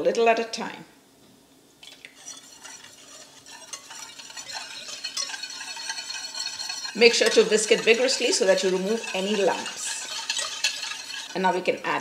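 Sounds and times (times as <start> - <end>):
whisk scraping against a pan: 1.8 - 11.8.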